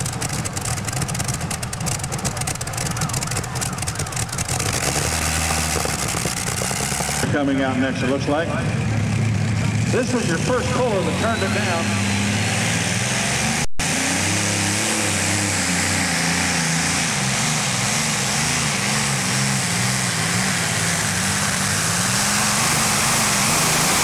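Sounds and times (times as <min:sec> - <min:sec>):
pulling tractor engine roar: 0:00.0 - 0:24.0.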